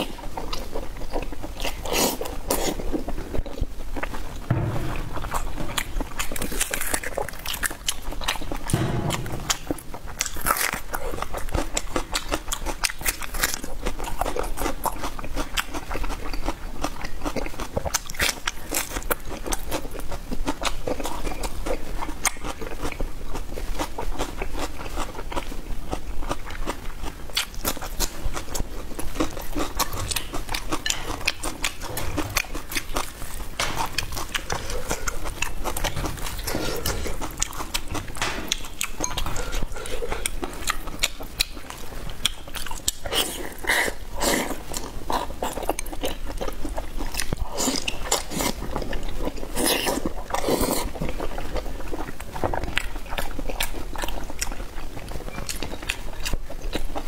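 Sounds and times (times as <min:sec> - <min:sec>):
person chewing and biting food: 0:00.0 - 0:57.0.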